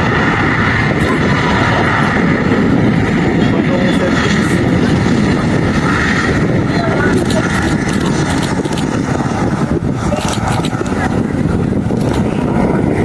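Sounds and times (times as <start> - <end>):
aircraft engine rumble: 0.0 - 13.0
high engine whine: 0.0 - 13.0.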